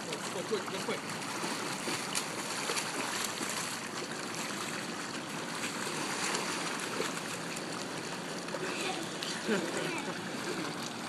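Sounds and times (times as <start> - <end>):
swimmers splashing in pool: 0.0 - 11.0.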